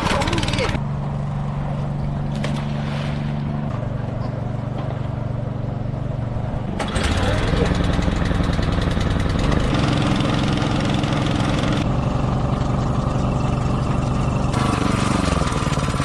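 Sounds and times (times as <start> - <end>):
engine-driven water pumps droning: 0.0 - 16.0.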